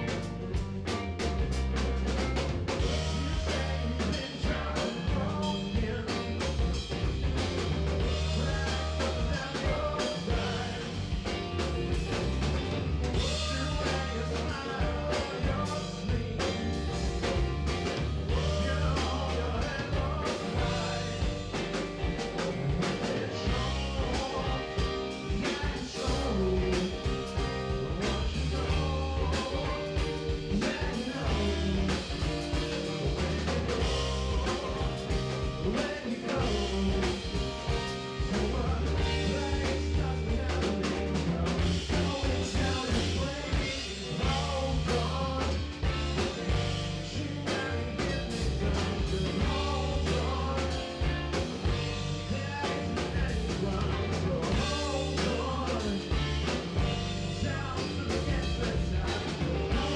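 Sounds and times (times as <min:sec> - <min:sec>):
live band playing soul-jazz: 0:00.0 - 0:59.9.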